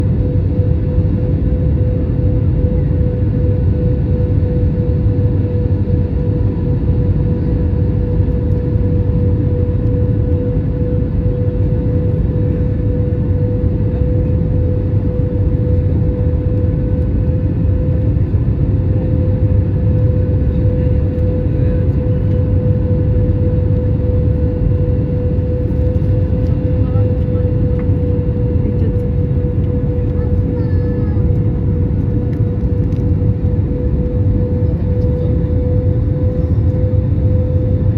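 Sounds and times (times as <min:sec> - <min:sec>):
airliner cabin engine drone: 0:00.0 - 0:37.9.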